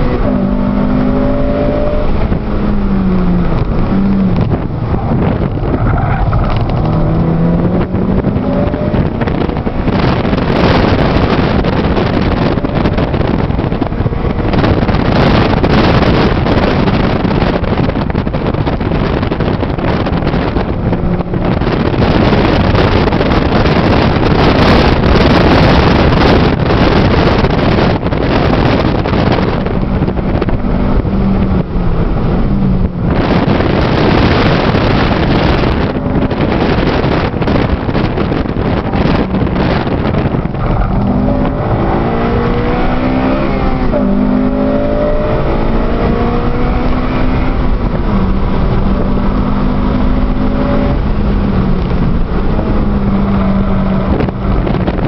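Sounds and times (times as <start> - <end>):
car engine under load: 0.0 - 55.0
road and wind noise: 0.0 - 55.0.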